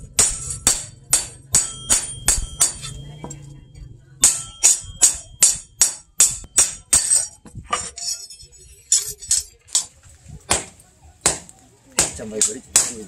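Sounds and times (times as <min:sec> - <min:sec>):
hammer striking metal on anvil: 0:00.0 - 0:03.5, 0:04.2 - 0:09.9, 0:10.5 - 0:13.0.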